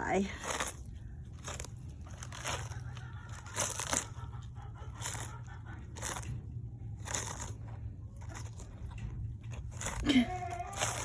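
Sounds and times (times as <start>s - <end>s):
steady low hum: 0.0s - 11.0s
animal crunching lettuce: 0.2s - 11.0s.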